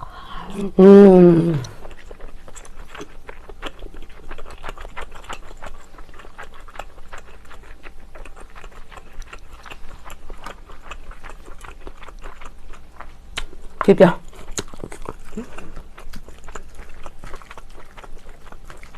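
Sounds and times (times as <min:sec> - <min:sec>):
chewing clicks and smacks: 0:01.6 - 0:18.9.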